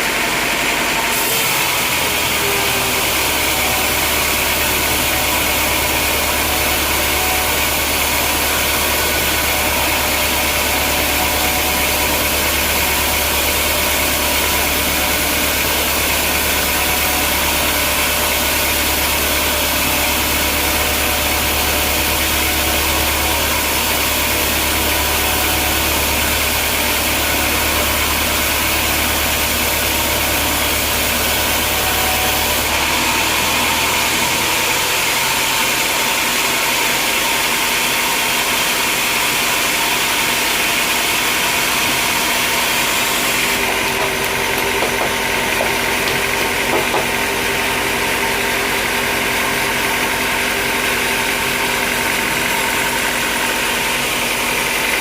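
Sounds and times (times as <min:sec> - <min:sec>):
low machine hum: 0:00.0 - 0:38.3, 0:39.0 - 0:55.0
noisy machine whir: 0:00.0 - 0:55.0.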